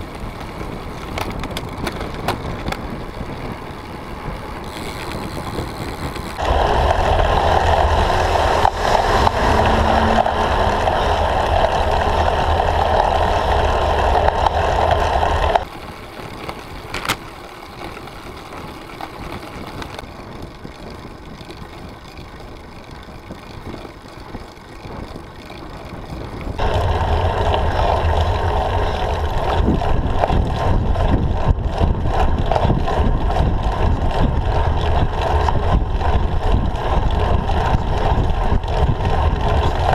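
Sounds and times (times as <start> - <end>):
rolling hum: 0.0 - 39.9
wind buffeting microphone: 0.0 - 39.9.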